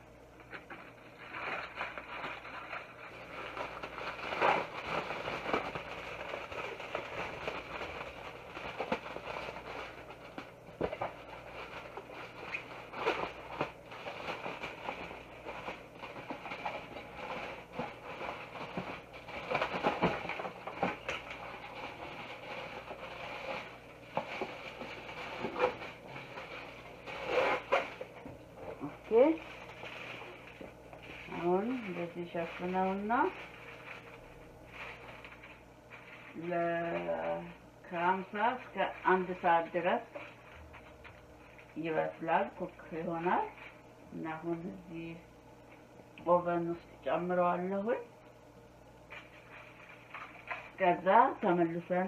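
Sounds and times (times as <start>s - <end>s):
aluminium foil crinkling: 0.4s - 43.8s, 49.1s - 52.0s.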